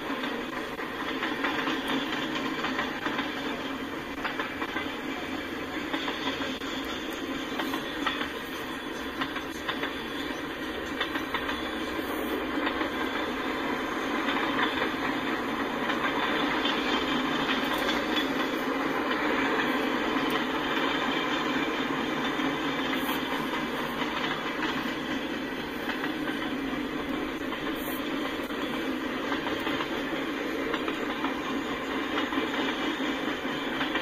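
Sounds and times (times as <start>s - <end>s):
freight cars rolling on rails: 0.0s - 34.0s.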